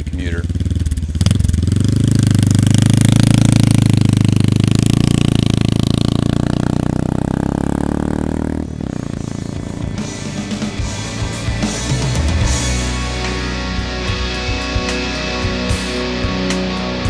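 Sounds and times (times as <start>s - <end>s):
motorcycle engine riding off: 0.0s - 17.0s.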